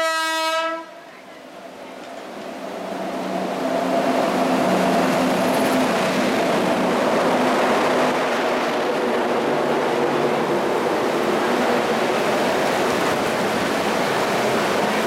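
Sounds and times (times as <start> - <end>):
train coaches rushing by: 0.0 - 15.0.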